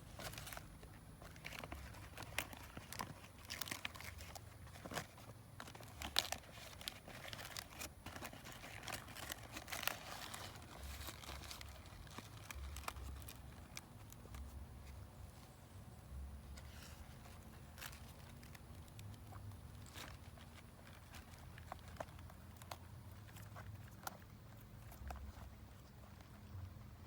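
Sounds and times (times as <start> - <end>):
leaves crinkling and tearing: 0.0 - 15.0, 16.5 - 25.5.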